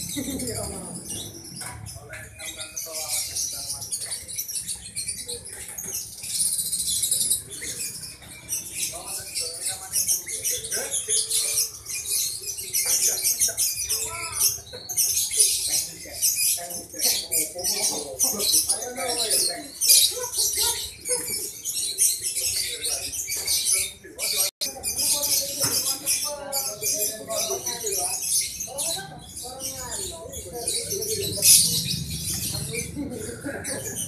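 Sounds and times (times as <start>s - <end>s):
lovebirds chattering: 0.0s - 34.0s.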